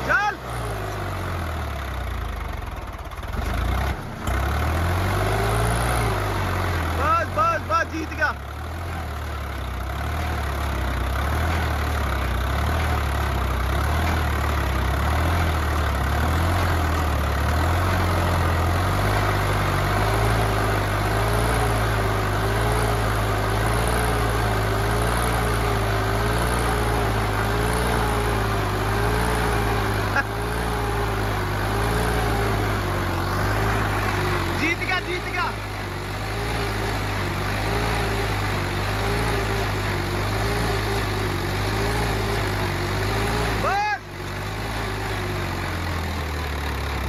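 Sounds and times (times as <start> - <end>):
tractor engines under heavy load: 0.0 - 47.0.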